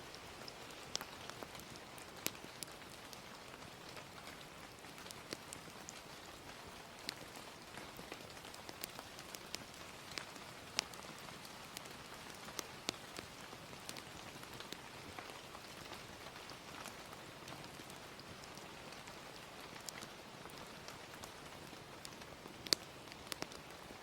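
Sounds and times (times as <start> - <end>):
gentle rain hiss: 0.0 - 24.0
wood fire crackling: 0.1 - 24.0.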